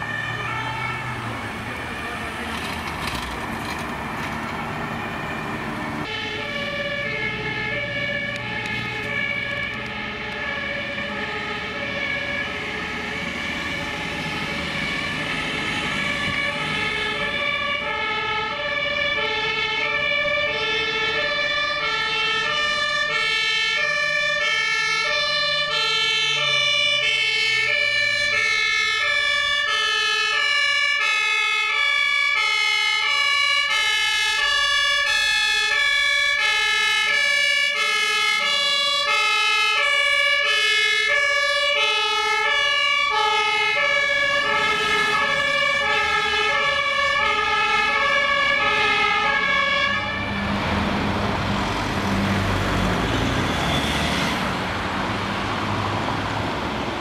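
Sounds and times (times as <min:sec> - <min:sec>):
two-tone siren: 0:00.0 - 0:02.2, 0:05.0 - 0:54.6
road noise: 0:00.0 - 0:57.0
truck engine: 0:00.0 - 0:57.0.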